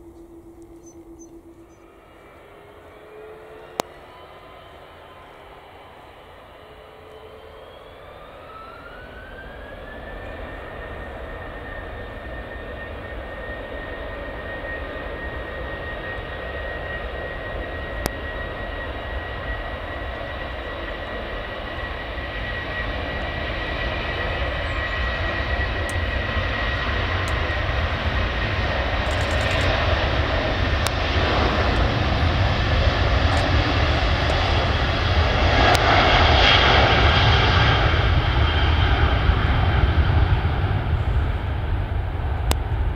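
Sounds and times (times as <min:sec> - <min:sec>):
jet engines spooling up: 0:00.0 - 0:42.9.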